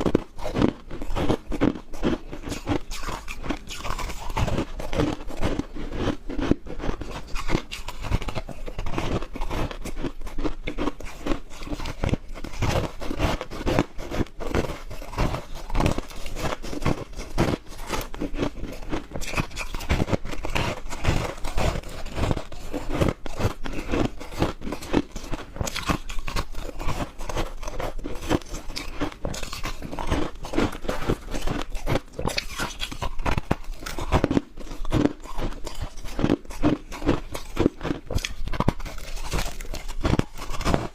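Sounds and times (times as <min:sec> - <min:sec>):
ice crunching from bites: 0:00.0 - 0:40.9.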